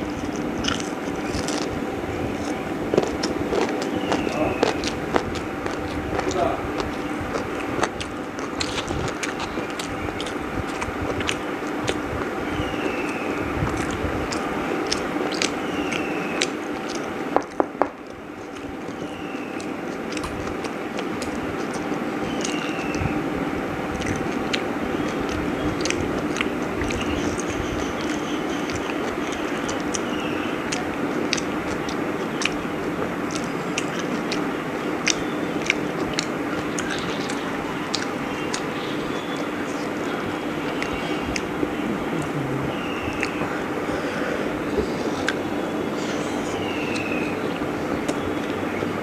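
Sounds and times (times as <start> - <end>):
wet mouth clicks: 0.0 - 23.2, 23.9 - 49.0
person chewing food: 0.0 - 49.0
steady hum: 0.0 - 49.0.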